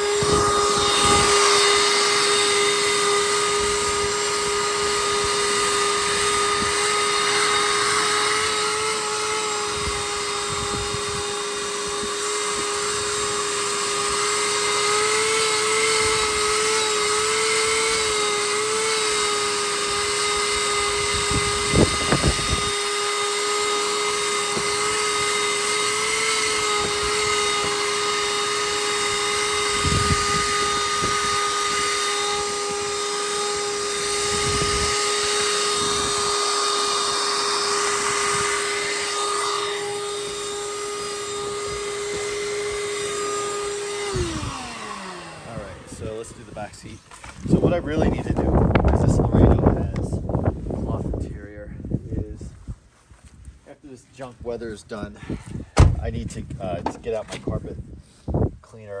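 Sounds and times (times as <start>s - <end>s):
shop vac whining: 0.0s - 51.3s, 53.8s - 58.5s.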